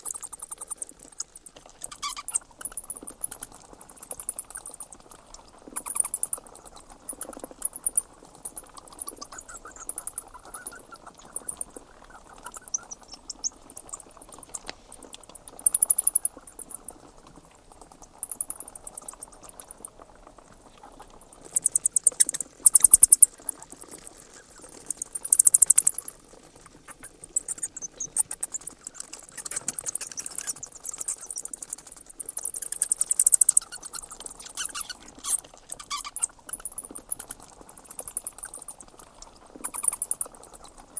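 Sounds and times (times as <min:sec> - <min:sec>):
bats squeaking and chittering: 0:00.0 - 0:40.9.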